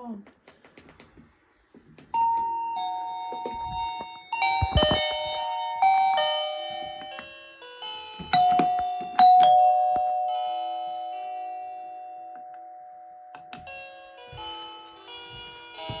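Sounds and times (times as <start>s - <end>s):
doorbell chimes ringing: 2.2s - 16.0s.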